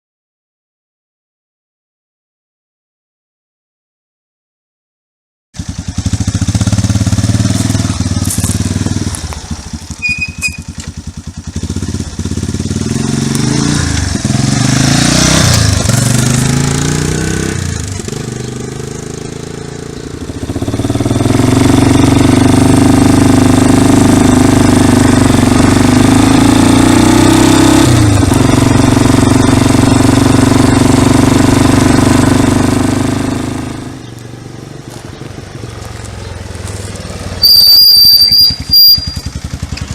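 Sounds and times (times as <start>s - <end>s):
quad bike engine revving: 5.6s - 39.9s.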